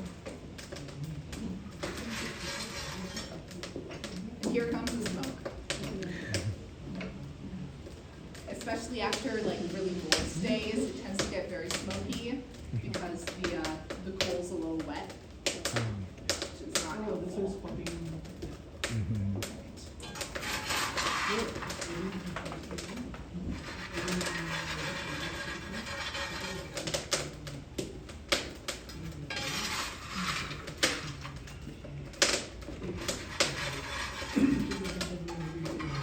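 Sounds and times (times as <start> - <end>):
faint voices murmuring: 0.0 - 36.0
fire crackling and popping: 0.0 - 36.0.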